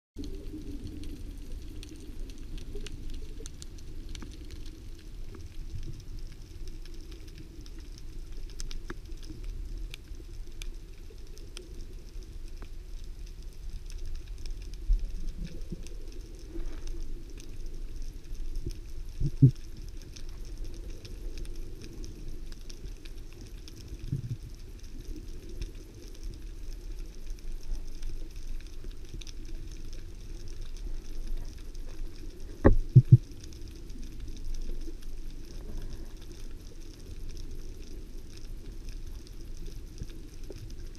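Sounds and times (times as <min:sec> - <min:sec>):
faint crackle of clicks: 0:00.2 - 0:40.9
underwater rumble of water: 0:00.2 - 0:40.9.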